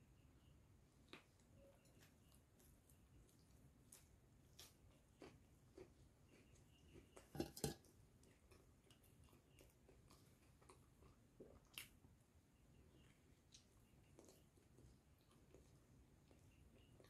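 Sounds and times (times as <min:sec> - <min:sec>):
person chewing wet mouth sounds: 0:01.0 - 0:07.4, 0:08.2 - 0:12.1, 0:13.0 - 0:17.0.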